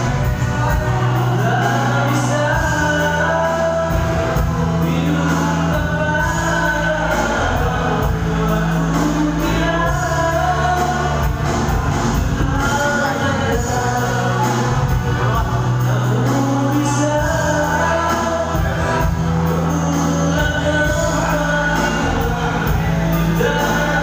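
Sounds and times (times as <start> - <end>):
held bass notes: 0.0 - 24.0
song with singing: 0.0 - 24.0.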